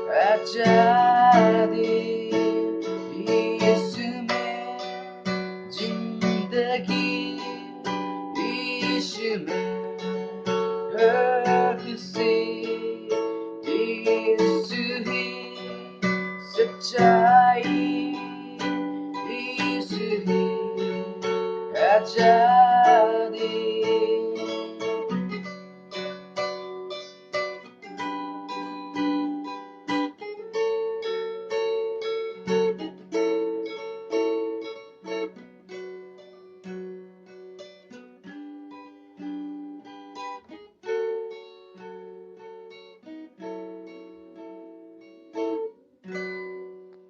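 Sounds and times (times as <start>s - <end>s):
acoustic guitar music: 0.0s - 47.0s.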